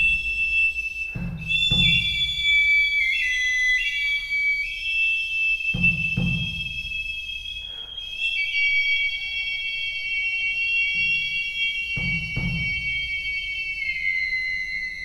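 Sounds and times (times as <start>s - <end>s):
shrill flutes playing held notes: 0.0s - 15.0s.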